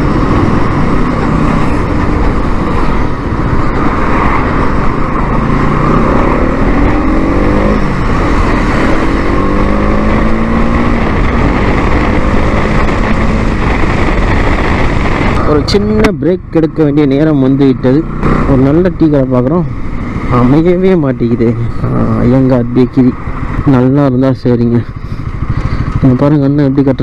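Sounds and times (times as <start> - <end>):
wind noise: 0.0 - 23.8
motorcycle engine running: 0.0 - 27.0.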